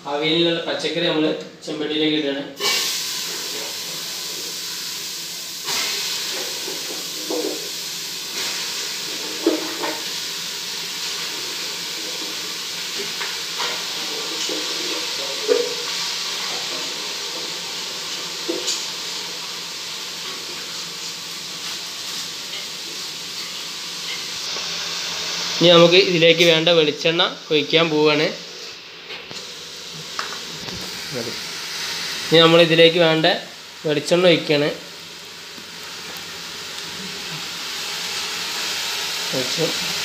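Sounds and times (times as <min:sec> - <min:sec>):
vegetables steaming hiss: 0:02.5 - 0:40.0.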